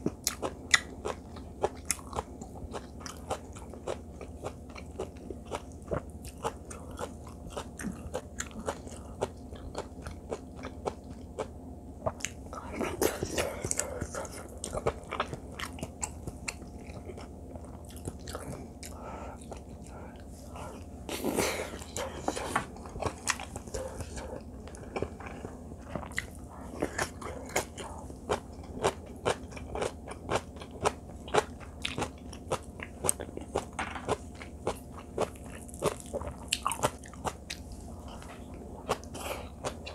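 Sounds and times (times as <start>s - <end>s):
chewing rice with wet clicks: 0.0s - 20.9s, 21.8s - 39.9s.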